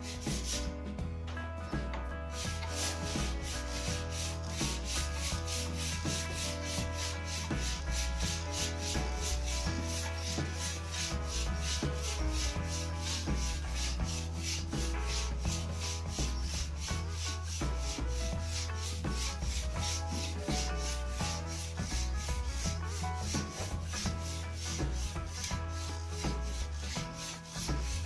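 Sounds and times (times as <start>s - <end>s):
sandpaper rubbing on wood: 0.0s - 0.7s, 2.3s - 28.0s.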